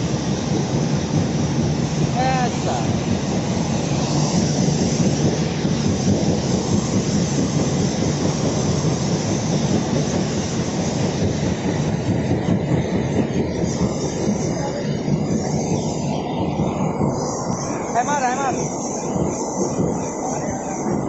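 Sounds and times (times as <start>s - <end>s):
mechanical rumble and clatter: 0.0s - 21.0s.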